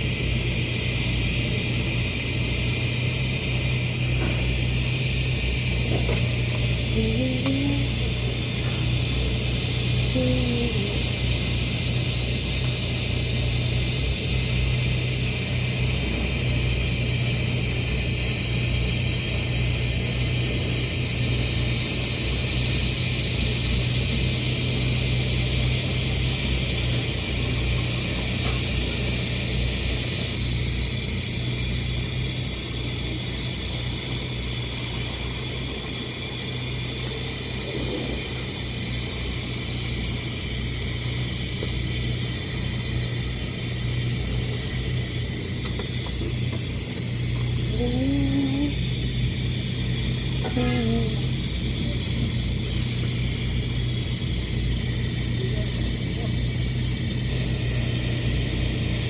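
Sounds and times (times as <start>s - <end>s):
constant low hum: 0.0s - 59.0s
welding arc hiss and crackle: 0.0s - 59.0s.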